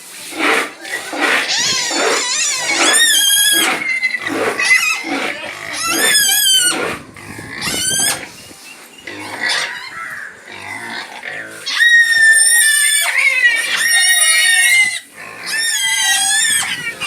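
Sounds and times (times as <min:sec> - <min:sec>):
pigs grunting: 0:00.2 - 0:08.3, 0:09.0 - 0:17.0
pigs squealing: 0:00.3 - 0:08.4, 0:09.0 - 0:17.0.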